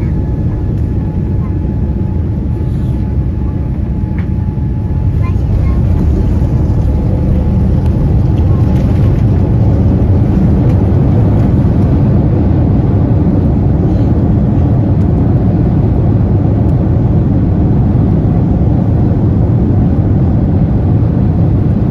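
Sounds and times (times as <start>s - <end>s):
airliner cabin engine rumble: 0.0s - 21.9s.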